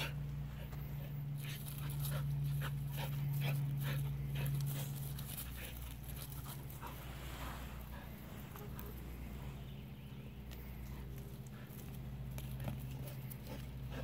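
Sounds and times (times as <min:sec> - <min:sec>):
dog panting: 0:00.0 - 0:09.6, 0:10.5 - 0:14.0
low steady hum: 0:00.0 - 0:14.0.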